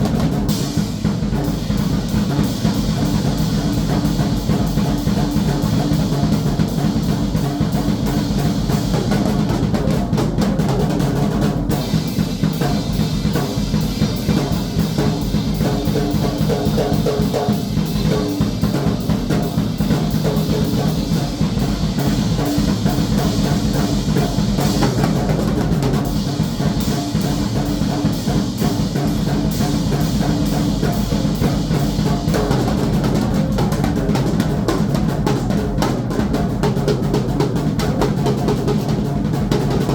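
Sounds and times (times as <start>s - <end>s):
drum kit playing fast: 0.0s - 39.9s.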